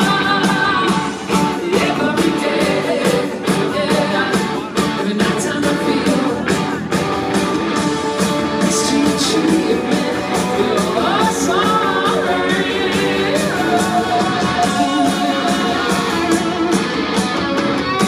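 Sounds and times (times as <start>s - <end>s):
person singing: 0.0s - 6.8s, 8.6s - 16.9s
drums: 0.0s - 18.0s
electric guitar: 0.0s - 18.0s.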